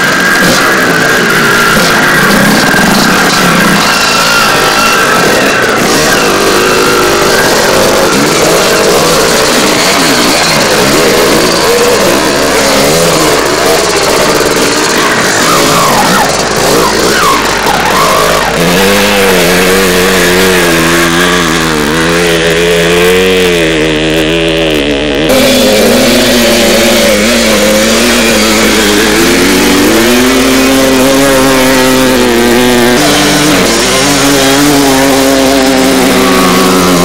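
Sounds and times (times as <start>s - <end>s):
motorcycle engines revving: 0.0s - 37.0s.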